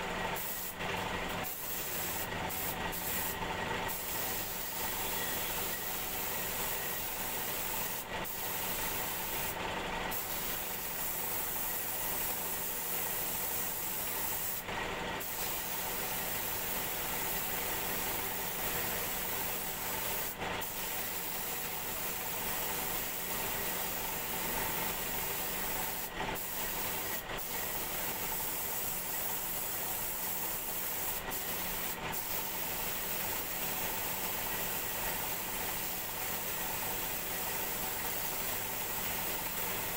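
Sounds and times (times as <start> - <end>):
spray gun hissing: 0.4 - 0.8, 1.4 - 14.6, 15.2 - 39.9.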